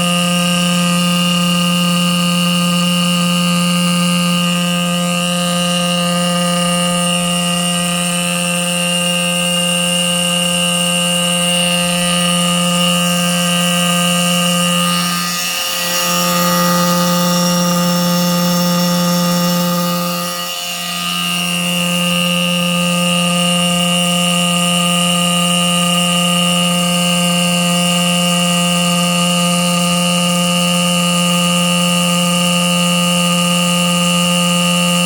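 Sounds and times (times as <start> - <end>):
fire alarm horn: 0.0 - 35.0.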